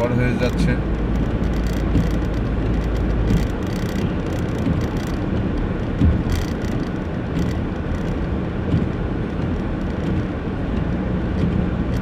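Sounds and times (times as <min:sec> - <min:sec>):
car driving on snow: 0:00.0 - 0:12.0.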